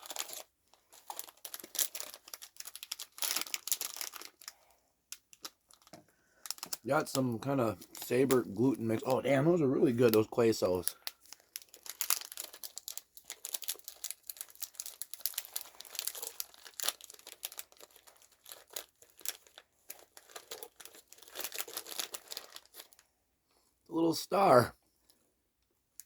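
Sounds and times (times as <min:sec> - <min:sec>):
plastic packaging crinkling: 0:00.0 - 0:23.1.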